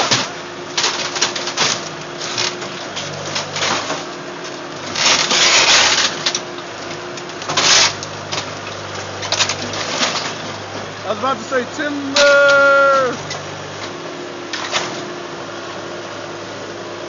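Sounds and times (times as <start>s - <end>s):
timber cracking and crunching: 0.0s - 15.1s
steady low hum: 0.0s - 17.0s.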